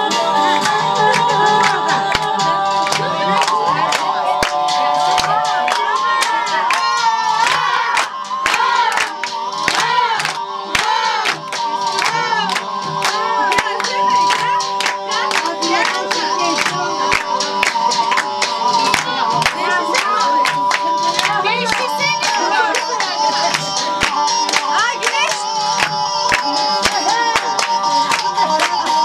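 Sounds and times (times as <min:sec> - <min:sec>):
dance music: 0:00.0 - 0:29.0
steady drum beat: 0:00.0 - 0:29.0.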